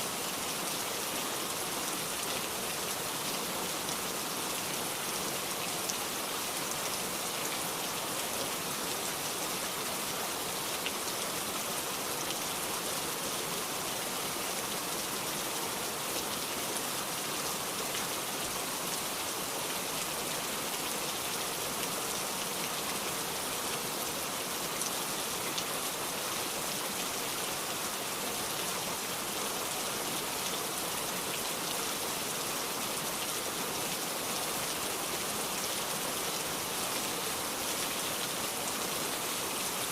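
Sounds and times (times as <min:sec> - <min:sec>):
heavy rain downpour: 0:00.0 - 0:39.9.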